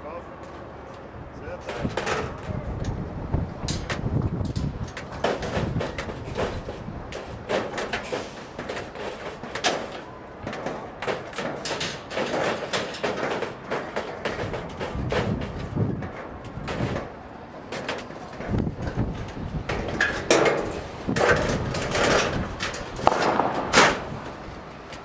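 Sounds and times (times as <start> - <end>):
sheet metal knocking and clattering: 1.6 - 3.0, 3.6 - 25.0.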